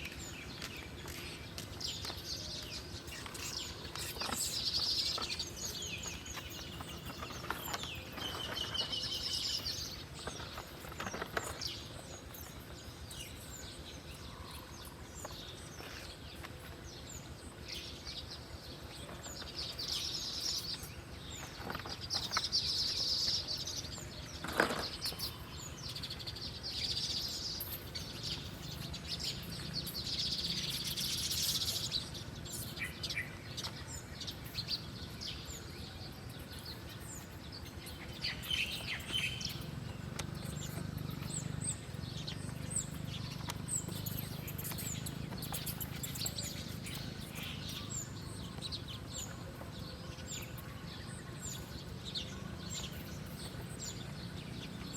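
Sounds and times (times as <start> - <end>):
songbirds chirping: 0.0 - 54.9.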